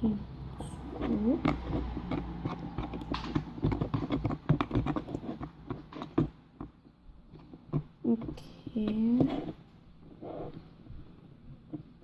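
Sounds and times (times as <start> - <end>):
slime being stirred in a bowl: 0.6 - 10.6.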